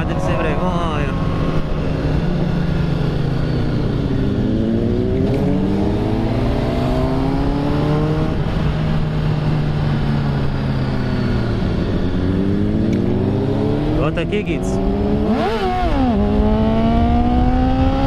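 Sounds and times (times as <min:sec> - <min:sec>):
low wind rumble: 0:00.0 - 0:18.0
motorcycle engine accelerating: 0:00.0 - 0:18.0.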